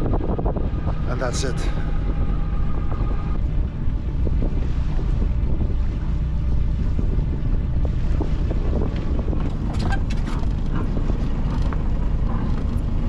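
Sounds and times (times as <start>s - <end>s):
boat engine running slowly: 0.0s - 13.0s.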